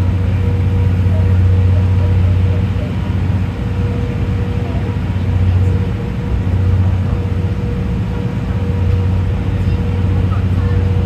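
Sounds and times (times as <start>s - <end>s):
train coach low hum: 0.0s - 11.0s.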